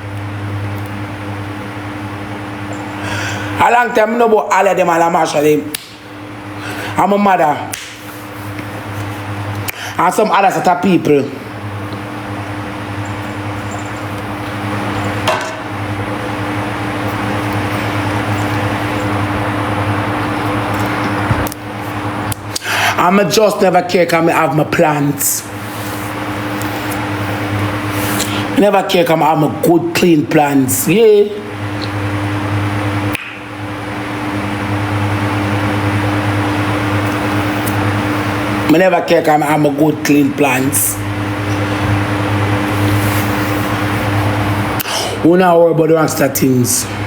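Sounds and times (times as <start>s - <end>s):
mechanical hum: 0.0s - 47.0s.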